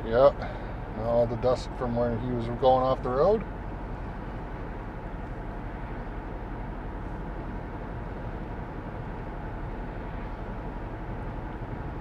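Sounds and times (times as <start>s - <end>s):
engine and tyre rumble in cabin: 0.0s - 12.0s.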